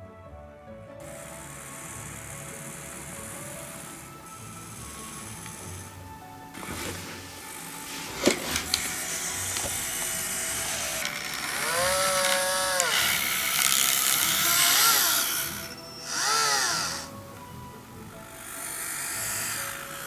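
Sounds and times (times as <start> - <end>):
motor whine: 1.0 - 20.0
toy excavator motors whirring: 1.0 - 20.0.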